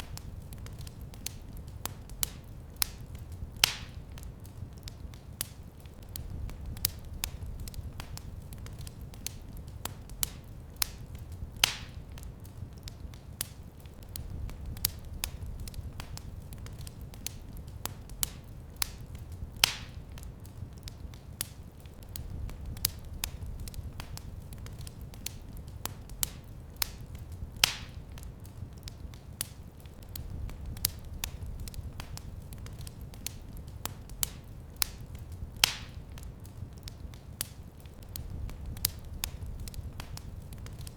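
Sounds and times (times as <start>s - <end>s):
fire popping: 0.0s - 40.9s
low rumble of flames: 0.0s - 40.9s
wood fire crackling: 0.0s - 40.9s.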